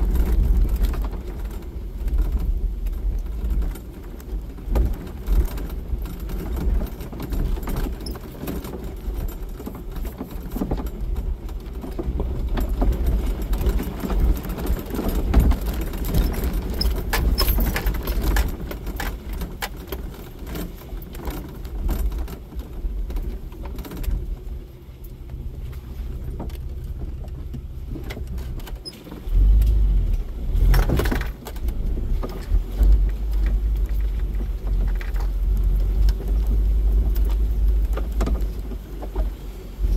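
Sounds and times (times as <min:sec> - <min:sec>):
engine and tyre rumble: 0:00.0 - 0:39.9
vehicle clinking and rattling: 0:00.0 - 0:39.9.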